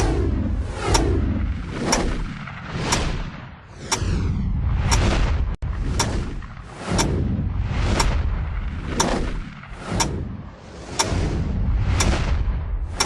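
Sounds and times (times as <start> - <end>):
steady deep rumble: 0.0 - 13.0.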